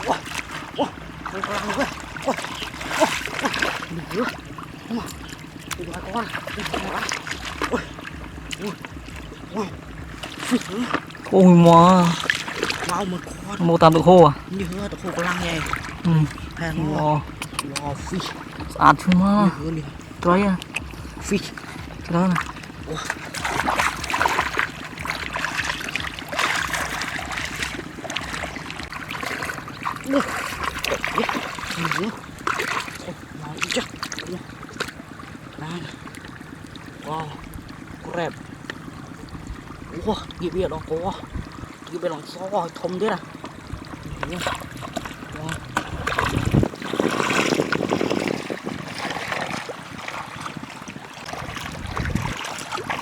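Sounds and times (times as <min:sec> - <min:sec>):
faint low hum: 0:00.0 - 0:47.6
water sloshing and splashing: 0:00.0 - 0:53.0.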